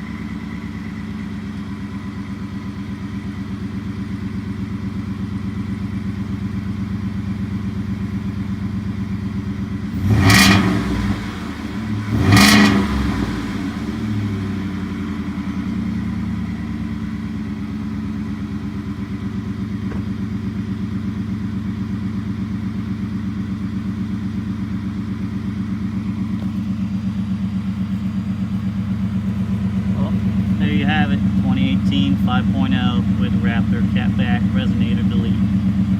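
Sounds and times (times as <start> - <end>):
truck engine idling and revving: 0.0 - 35.9.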